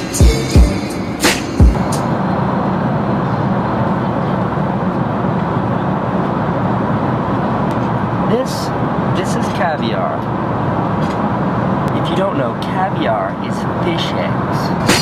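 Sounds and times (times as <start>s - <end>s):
airliner cabin noise: 0.0s - 15.0s.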